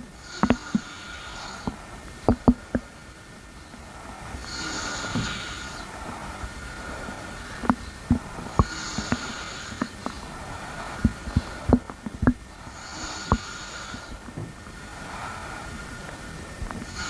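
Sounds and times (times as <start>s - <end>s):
stomach gurgling: 0.0s - 2.9s, 3.8s - 14.7s
soft breaths: 0.0s - 17.0s
steady hiss: 0.0s - 17.0s.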